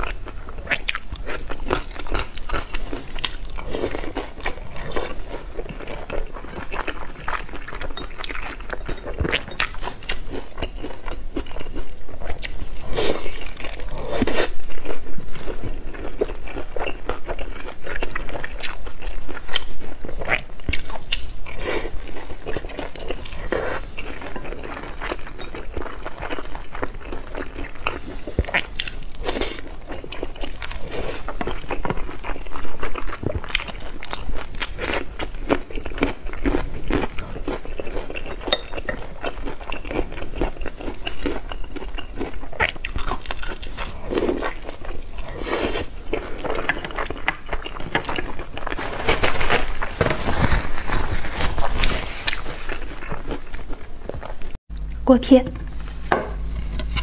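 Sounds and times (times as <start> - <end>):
close eating and chewing: 0.0 - 57.0.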